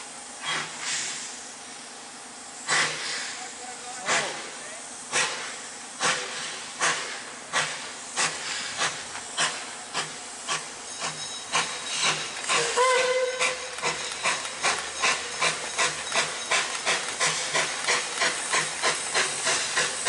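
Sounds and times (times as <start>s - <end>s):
steam hissing: 0.0s - 20.0s
steam locomotive exhaust chuffing: 0.0s - 20.0s.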